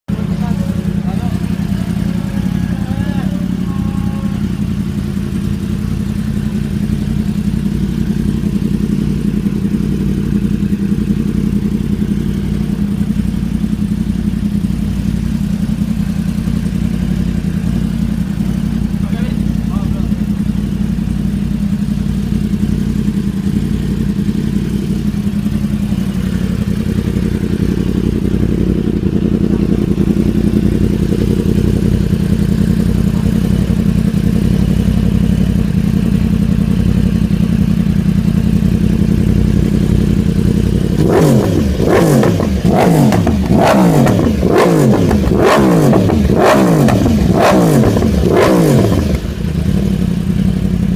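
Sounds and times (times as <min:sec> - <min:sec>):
motorcycle engine idling: 0:00.0 - 0:50.9
motorcycle throttle blips: 0:00.1 - 0:50.9.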